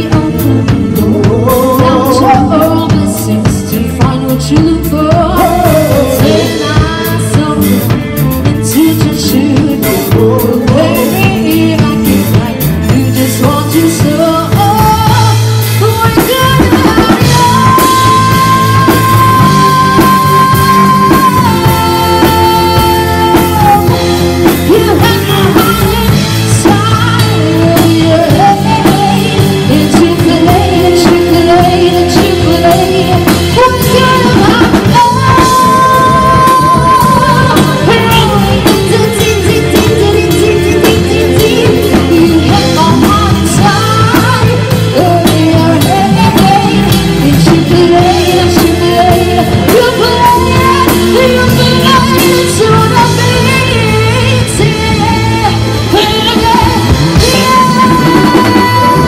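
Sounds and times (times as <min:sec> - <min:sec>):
rock band playing: 0:00.0 - 0:59.0
woman singing lead: 0:00.0 - 0:59.0.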